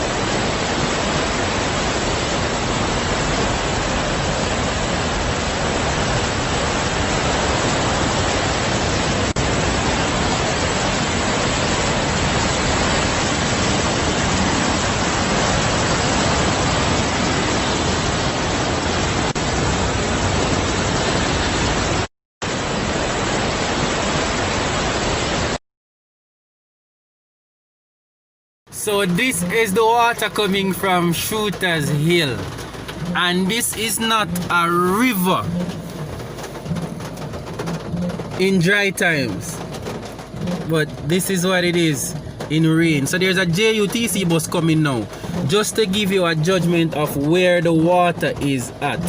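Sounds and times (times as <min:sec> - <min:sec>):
heavy water rushing: 0:00.0 - 0:25.6, 0:28.7 - 0:49.0.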